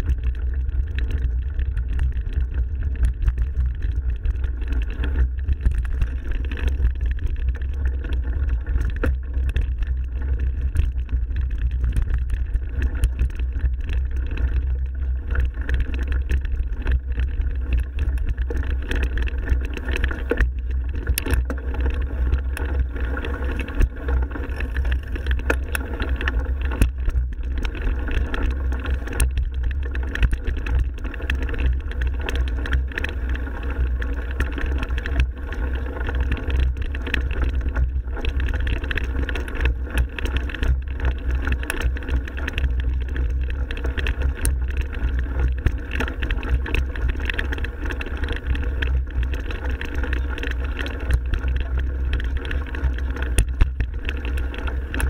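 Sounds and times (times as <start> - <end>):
bike tyres rumbling: 0.0 - 55.0.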